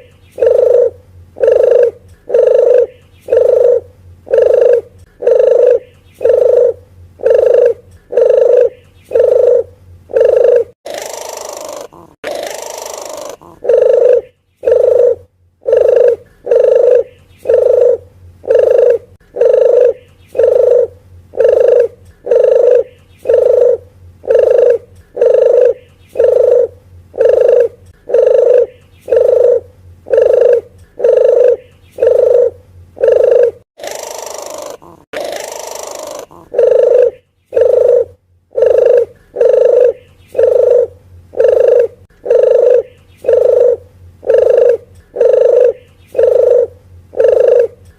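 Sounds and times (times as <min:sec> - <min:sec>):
short low dove coos: 0:00.0 - 0:47.9.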